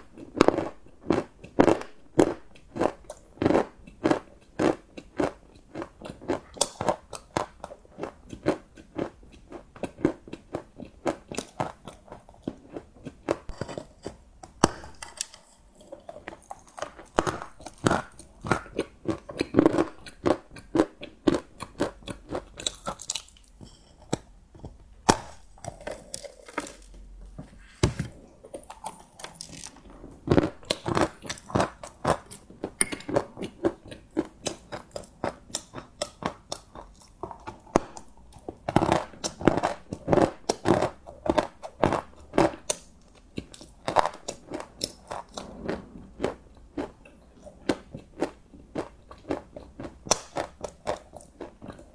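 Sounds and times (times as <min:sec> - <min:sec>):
chewing crunchy chocolate: 0:00.0 - 0:51.9.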